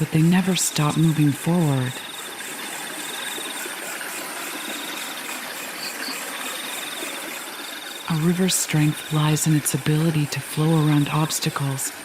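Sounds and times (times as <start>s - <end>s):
crickets chirping: 0.0s - 12.0s
river water flowing: 0.0s - 12.0s.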